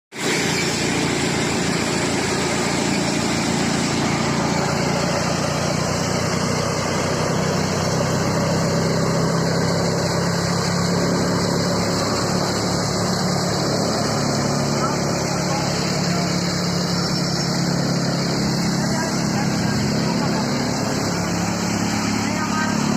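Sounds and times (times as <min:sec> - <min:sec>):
tractor diesel engine running: 0:00.1 - 0:22.9.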